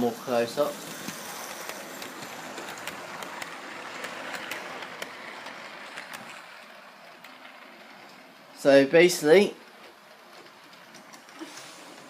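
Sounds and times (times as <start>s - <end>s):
model train running rumble: 0.0s - 12.0s
wheels clicking over rail joints: 0.0s - 12.0s.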